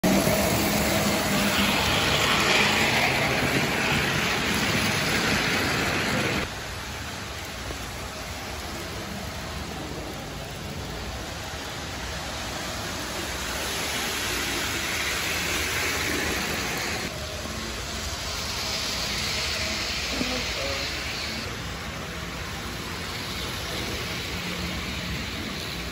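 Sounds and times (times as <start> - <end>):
model locomotive whirring rumble: 0.0 - 25.9
small model trains whirring: 0.0 - 25.9.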